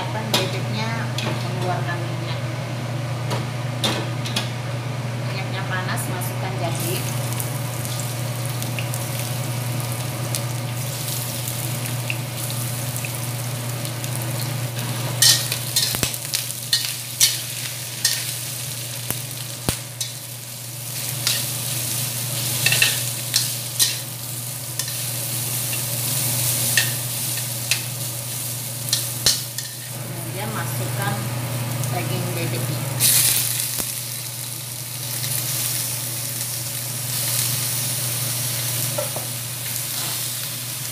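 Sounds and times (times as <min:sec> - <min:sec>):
meat sizzling in oil: 0:06.8 - 0:30.6, 0:31.4 - 0:40.9.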